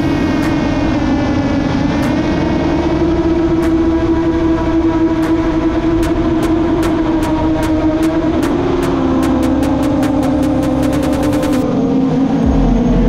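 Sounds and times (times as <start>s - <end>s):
drone motors whining: 0.0s - 13.0s
rough rumbling wash: 0.0s - 13.0s.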